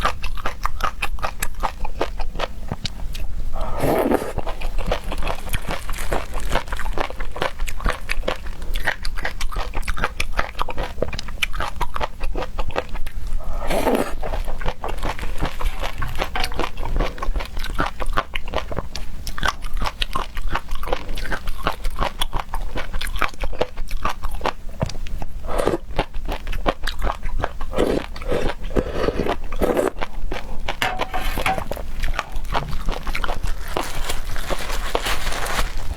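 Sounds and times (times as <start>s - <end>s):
person chewing seafood: 0.0s - 34.5s.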